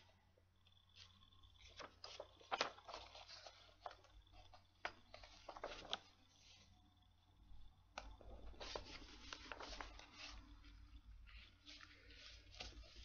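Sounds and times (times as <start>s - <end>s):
magazine paper rustling: 0.9s - 6.7s, 8.0s - 13.0s.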